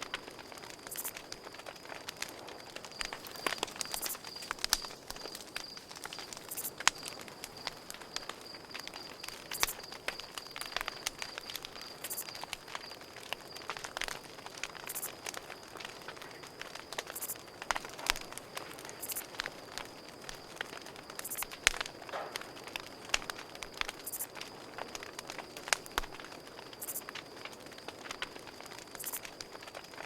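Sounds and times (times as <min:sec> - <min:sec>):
campfire crackling and popping: 0:00.0 - 0:30.0
cricket chirping: 0:00.0 - 0:30.0.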